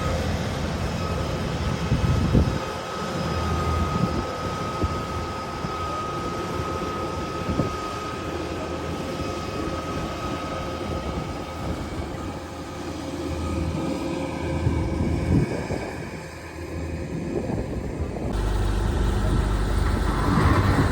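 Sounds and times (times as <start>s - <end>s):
combine harvester engine running: 0.0s - 20.9s
thin steady whine: 0.0s - 20.9s.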